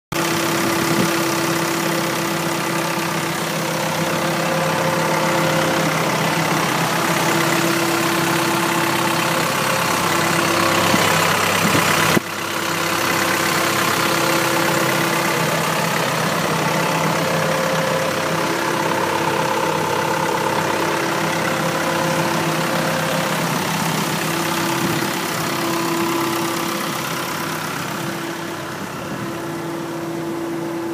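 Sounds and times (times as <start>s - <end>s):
diesel engine idling: 0.1s - 30.9s.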